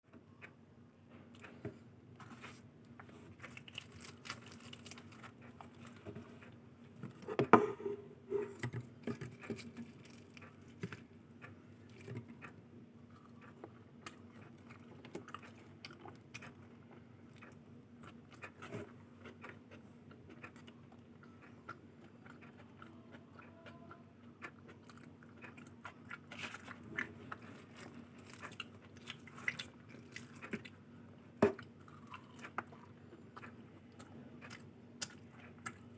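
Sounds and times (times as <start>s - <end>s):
faint steady hum: 0.1s - 35.9s
person chewing food: 1.3s - 35.9s.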